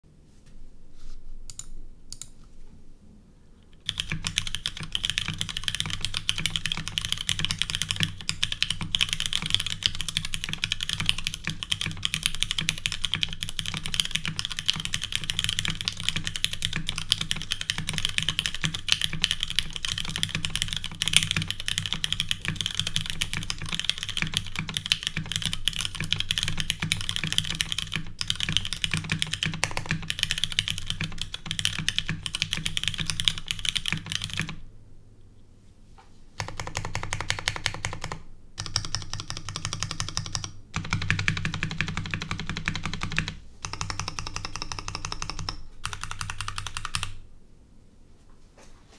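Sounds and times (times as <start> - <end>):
fast mechanical keyboard typing: 3.8 - 34.6, 36.4 - 47.2.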